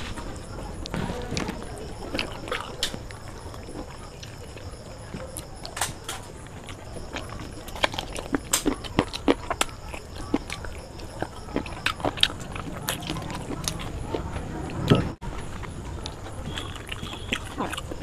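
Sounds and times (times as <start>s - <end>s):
wet chewing and lip-smacking: 0.3s - 18.0s.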